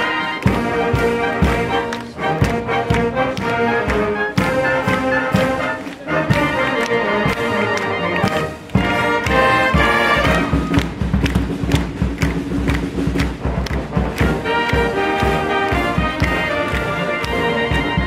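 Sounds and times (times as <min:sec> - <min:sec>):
wind band playing: 0:00.0 - 0:18.0.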